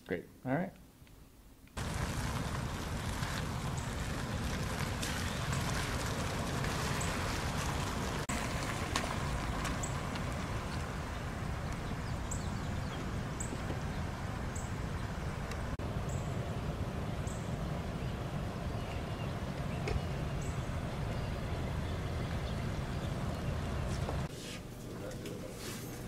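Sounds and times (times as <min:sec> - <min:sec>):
low rumble and hiss: 0:01.3 - 0:24.3.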